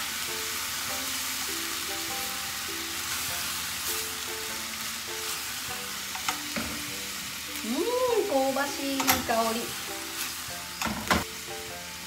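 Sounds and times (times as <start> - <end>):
soft background music: 0.0 - 12.0
vegetables sizzling in a frying pan: 0.0 - 12.0.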